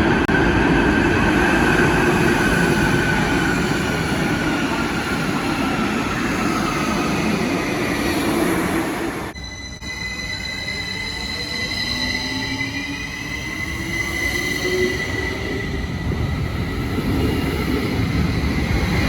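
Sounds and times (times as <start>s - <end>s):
train wheels rumbling on rails: 0.0s - 9.4s, 10.7s - 19.0s.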